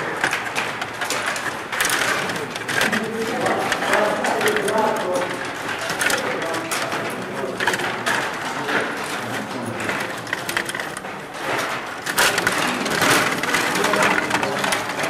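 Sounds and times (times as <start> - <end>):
rod hockey game clattering: 0.0 - 15.0.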